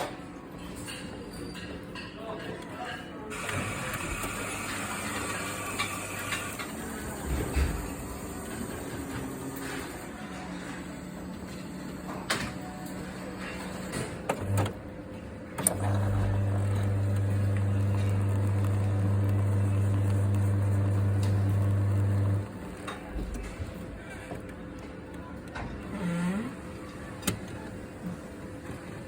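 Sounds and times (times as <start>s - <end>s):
coffee machine humming: 3.3s - 29.0s.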